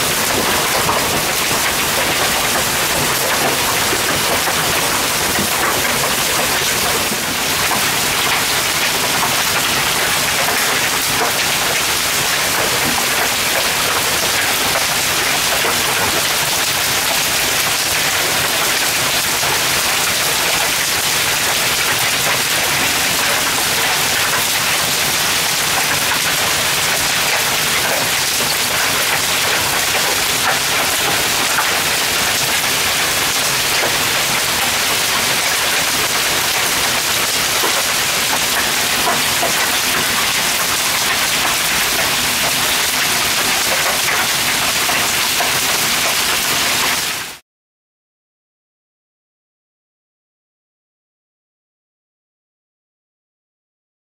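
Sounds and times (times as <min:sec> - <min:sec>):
hailstones hitting: 0:00.0 - 0:47.2
heavy rain falling: 0:00.0 - 0:47.4.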